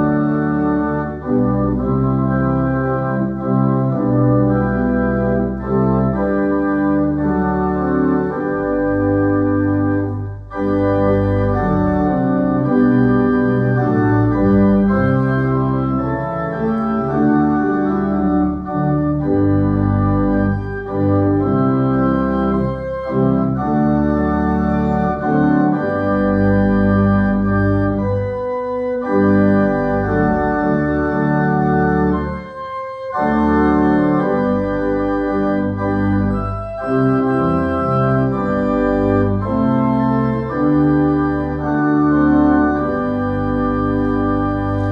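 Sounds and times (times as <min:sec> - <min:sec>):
organ playing chords: 0:00.0 - 0:44.9.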